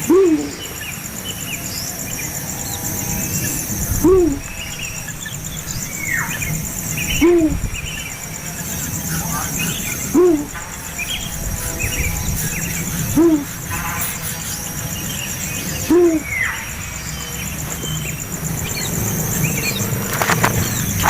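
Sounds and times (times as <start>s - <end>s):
bird hooting call: 0.0s - 0.9s, 2.8s - 21.0s
insect buzz: 0.0s - 21.0s.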